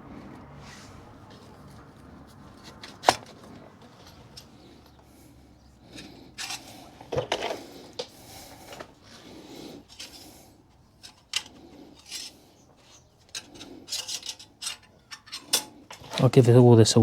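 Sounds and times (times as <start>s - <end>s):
metal tools clinking and scraping: 0.9s - 16.6s.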